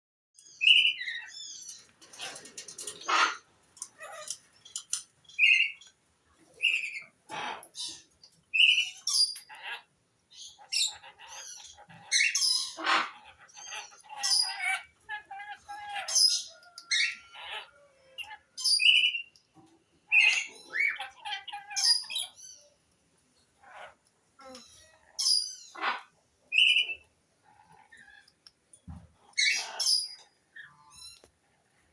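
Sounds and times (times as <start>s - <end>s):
parakeet squawking and chirping: 0.4s - 5.8s, 6.6s - 19.3s, 20.1s - 22.7s, 23.6s - 27.0s, 29.2s - 31.2s.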